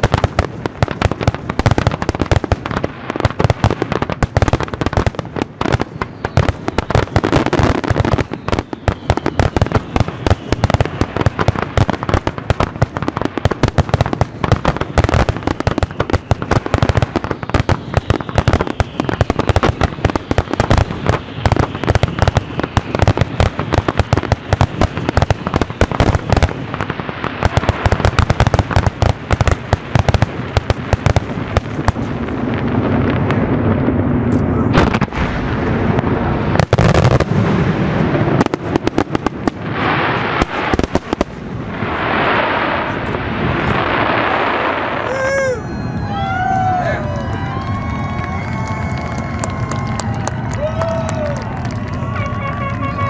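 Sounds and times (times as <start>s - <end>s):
fireworks bursts and crackling: 0.0s - 53.0s.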